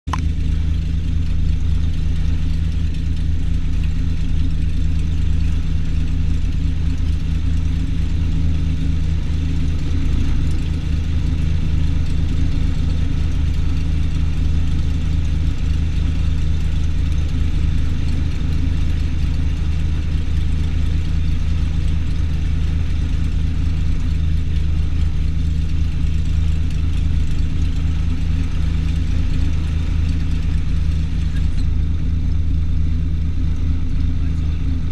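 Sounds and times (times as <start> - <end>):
aircraft engine idling drone: 0.1 - 34.9.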